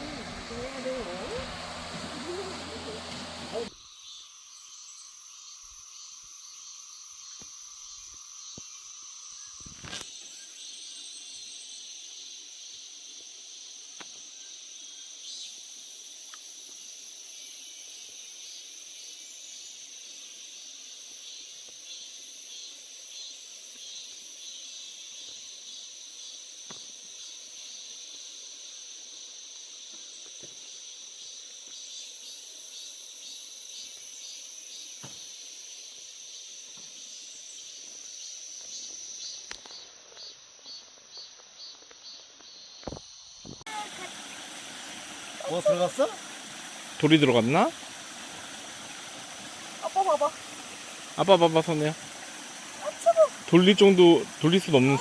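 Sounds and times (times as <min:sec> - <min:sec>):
insects shrilling in chorus: 0:00.0 - 0:55.0.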